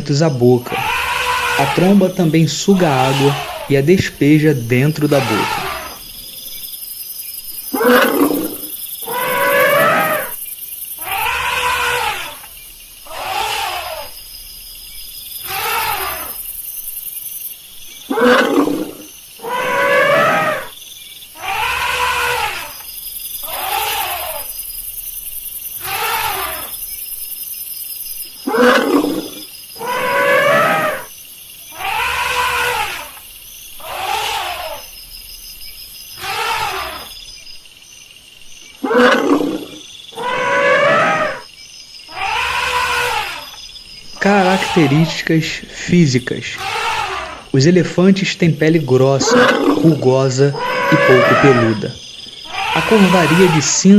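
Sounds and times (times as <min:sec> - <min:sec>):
elephant calling: 0:00.0 - 0:06.6, 0:07.6 - 0:14.6, 0:15.3 - 0:16.6, 0:18.0 - 0:25.0, 0:25.7 - 0:27.0, 0:28.3 - 0:35.2, 0:36.0 - 0:37.2, 0:38.7 - 0:41.5, 0:42.1 - 0:53.9.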